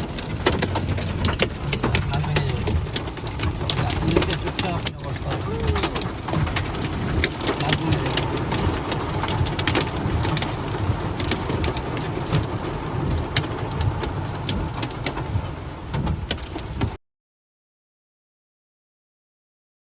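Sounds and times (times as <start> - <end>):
hailstones pelting down: 0.0 - 16.9.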